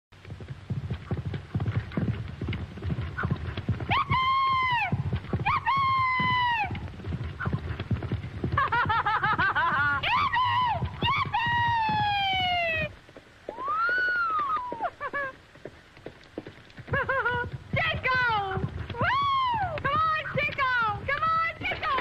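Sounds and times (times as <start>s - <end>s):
horse hooves clattering: 0.1s - 22.0s.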